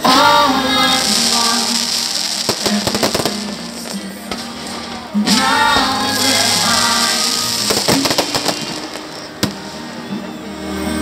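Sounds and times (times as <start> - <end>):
fireworks bursting: 0.0 - 10.4
show music with singing: 0.0 - 11.0
sharp firework bangs: 1.0 - 9.8.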